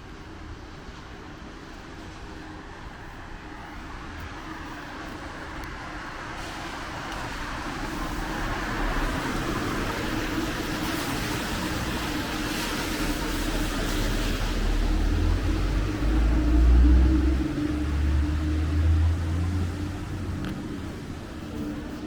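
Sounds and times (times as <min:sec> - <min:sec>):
vehicle approaching on wet road: 0:00.2 - 0:22.0.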